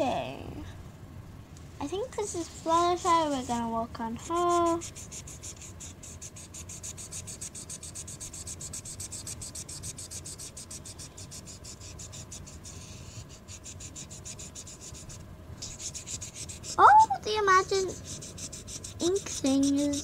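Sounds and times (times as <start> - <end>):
marker scribbling on paper: 2.4 - 20.0.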